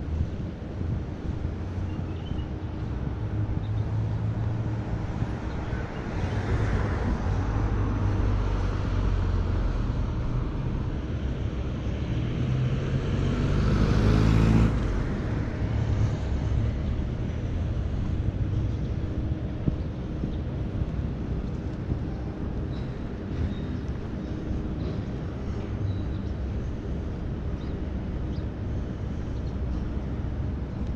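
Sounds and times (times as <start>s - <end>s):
road traffic engines: 0.0s - 30.9s.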